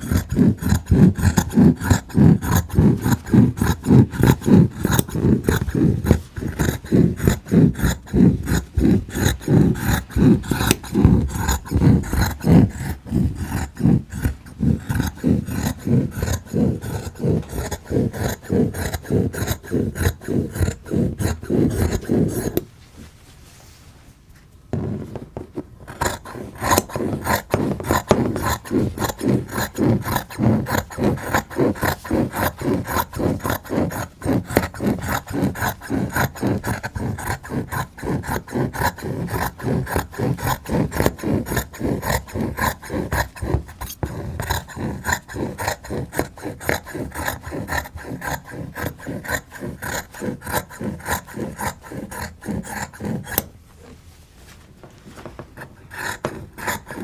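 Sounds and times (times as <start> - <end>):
scissors snipping fabric: 0.0 - 22.7, 24.8 - 53.9, 55.2 - 57.0.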